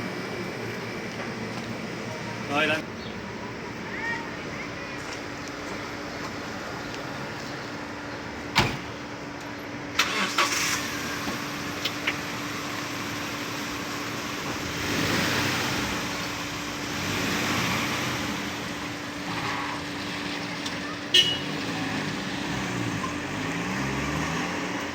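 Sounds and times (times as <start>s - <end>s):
car engine running: 0.0s - 3.8s, 5.3s - 24.9s.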